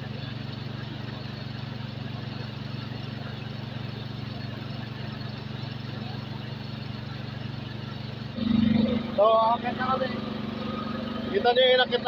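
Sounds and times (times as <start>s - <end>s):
water pump humming: 0.0s - 12.0s.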